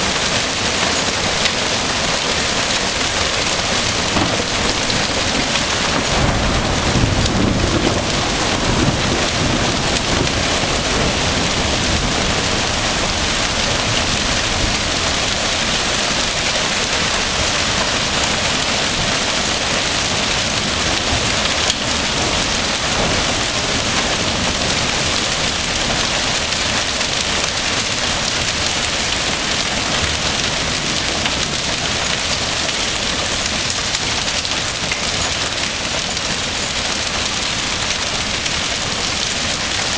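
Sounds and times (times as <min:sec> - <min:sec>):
hail and rain clattering: 0:00.0 - 0:39.9.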